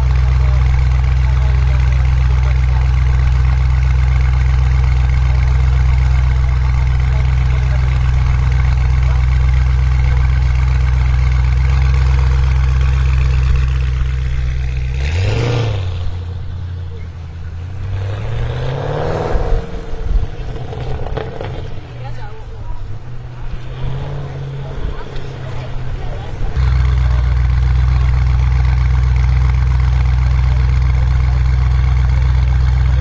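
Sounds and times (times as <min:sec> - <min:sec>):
car engine idling: 0:00.0 - 0:33.0
engine revving: 0:00.0 - 0:33.0
exhaust cracks: 0:00.0 - 0:33.0.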